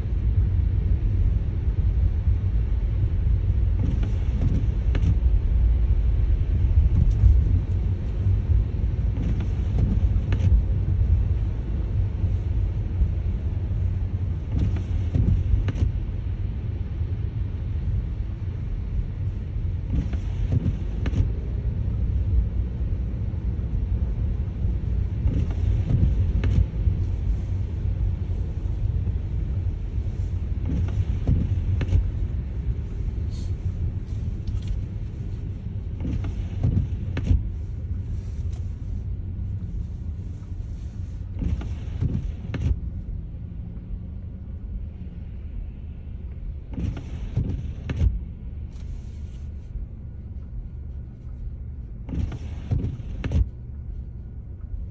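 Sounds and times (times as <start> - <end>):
car driving on snowy road: 0.0 - 54.9.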